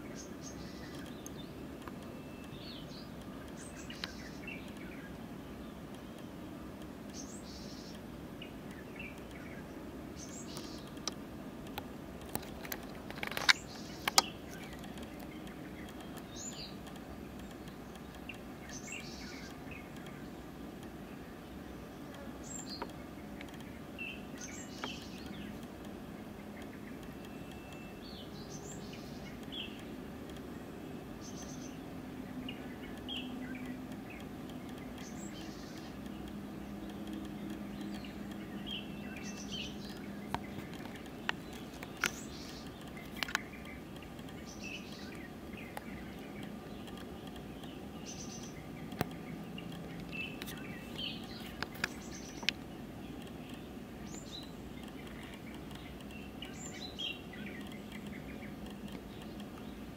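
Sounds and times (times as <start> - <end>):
bird chirps: 0.0 - 11.2, 12.3 - 59.9
steady low hum: 0.0 - 59.9
sharp clicks: 0.5 - 5.2, 5.9 - 59.9.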